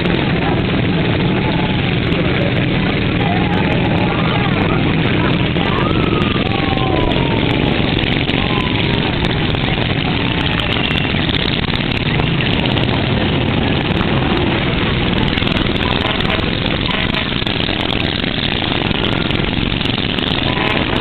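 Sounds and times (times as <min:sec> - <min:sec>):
go-kart engines buzzing: 0:00.0 - 0:21.0.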